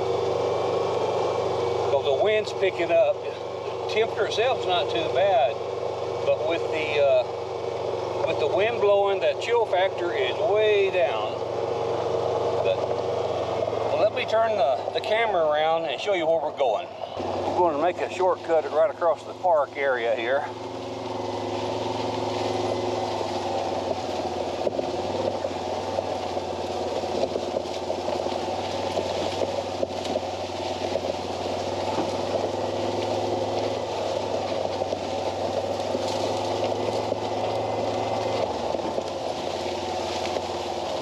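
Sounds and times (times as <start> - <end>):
utility vehicle engine hum: 0.0 - 41.0.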